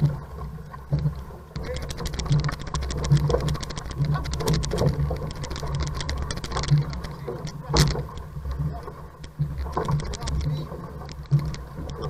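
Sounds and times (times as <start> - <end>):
water rushing along canoe hull: 0.0 - 12.0
rapid clicking and rattling: 0.7 - 12.0.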